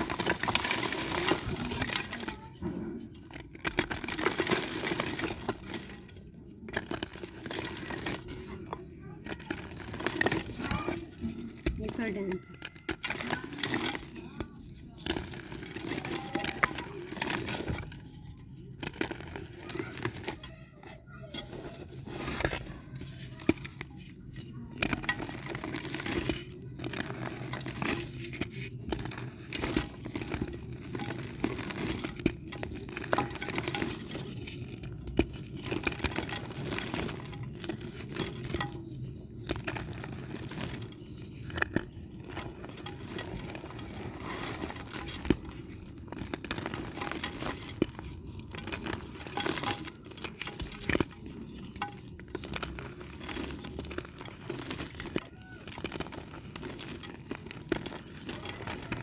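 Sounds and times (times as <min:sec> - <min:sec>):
dry dirt crunching by hand: 0:00.0 - 0:59.0.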